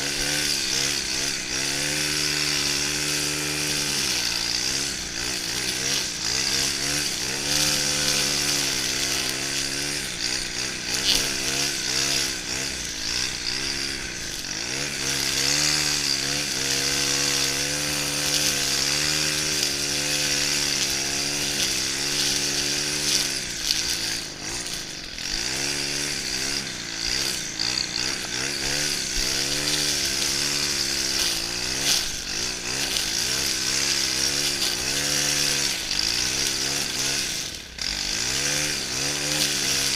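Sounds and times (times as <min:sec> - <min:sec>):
brushcutter engine running: 0:00.0 - 0:39.9
cutting head hissing in grass: 0:00.0 - 0:39.9.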